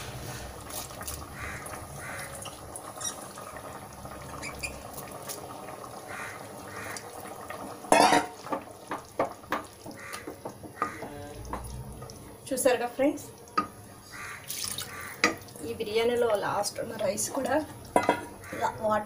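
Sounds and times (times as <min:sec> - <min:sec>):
rice bubbling in a pot: 0:00.0 - 0:19.0.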